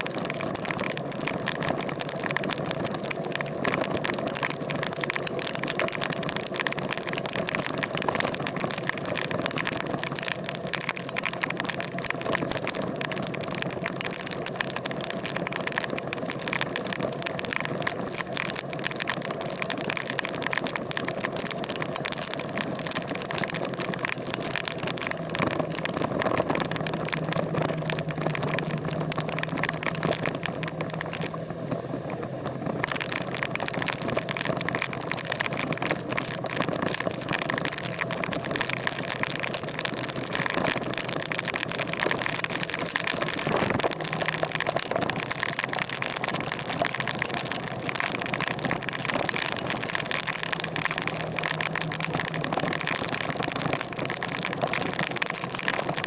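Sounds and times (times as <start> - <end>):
crackling hiss: 0.0 - 56.0
vehicle engine noise: 0.0 - 56.0.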